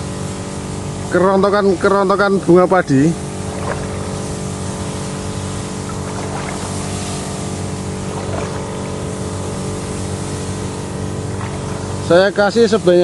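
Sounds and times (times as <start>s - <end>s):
small engine running: 0.0s - 13.0s
spray hissing: 0.0s - 13.0s.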